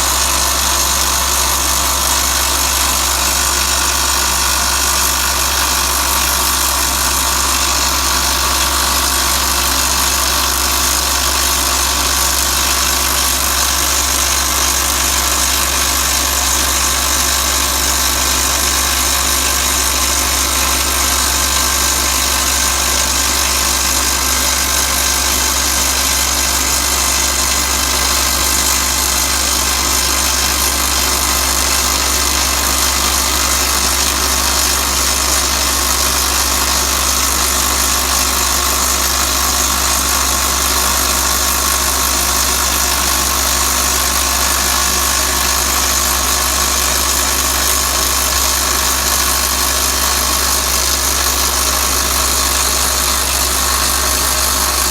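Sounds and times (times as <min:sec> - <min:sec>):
drill rig running with hiss: 0:00.0 - 0:54.9.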